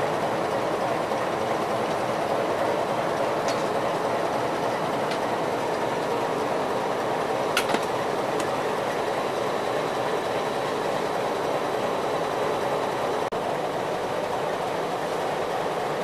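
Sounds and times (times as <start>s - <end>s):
diesel locomotive running: 0.0s - 16.0s.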